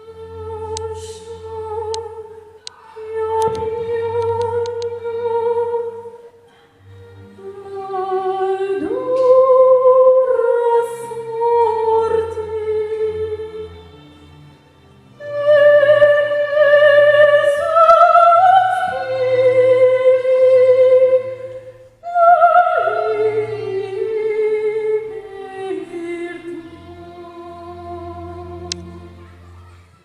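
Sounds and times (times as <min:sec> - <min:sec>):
woman singing operatically: 0:00.0 - 0:06.3, 0:07.4 - 0:13.7, 0:15.2 - 0:29.1.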